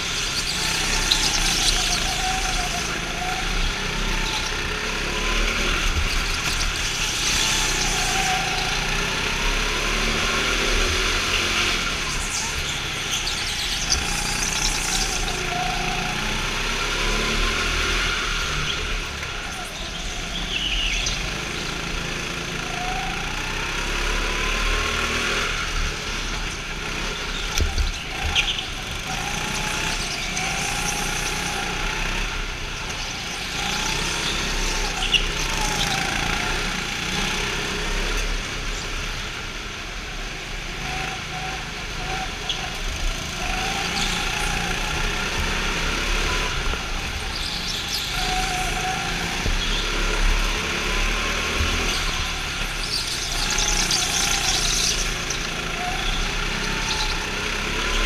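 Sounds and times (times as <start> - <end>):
go-kart engines racing: 0.0 - 58.0.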